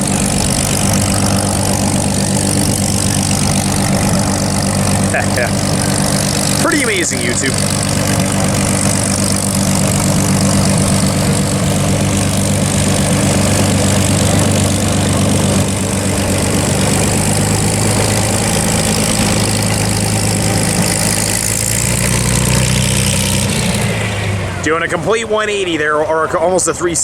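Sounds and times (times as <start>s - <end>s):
propeller plane engine idling: 0.0s - 27.0s.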